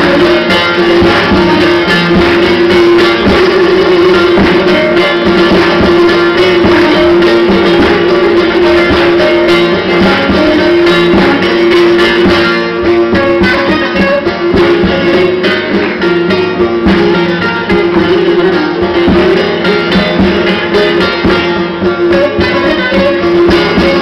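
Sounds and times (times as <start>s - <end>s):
plucked string instrumental music: 0.0s - 24.0s
steady held tone: 0.0s - 24.0s.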